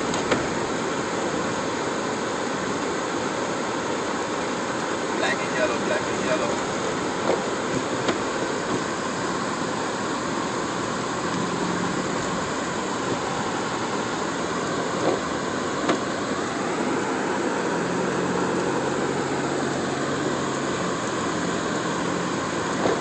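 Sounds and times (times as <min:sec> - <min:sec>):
car road and engine hum: 0:00.0 - 0:23.0.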